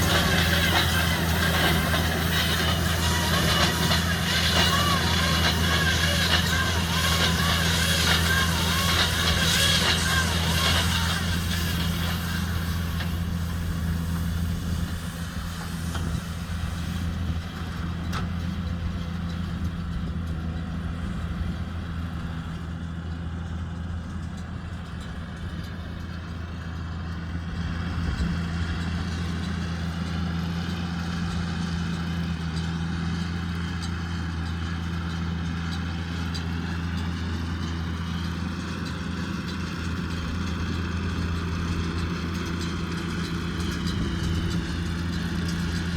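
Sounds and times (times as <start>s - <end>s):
tractor engine drone: 0.0s - 45.9s.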